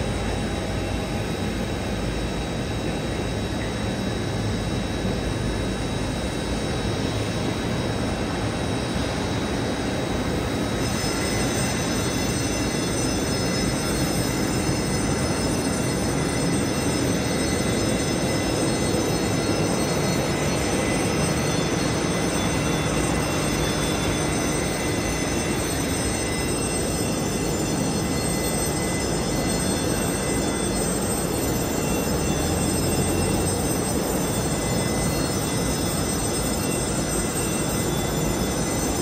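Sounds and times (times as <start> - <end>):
high steady whining tones: 0.0 - 39.0
jet engine noise: 0.0 - 39.0.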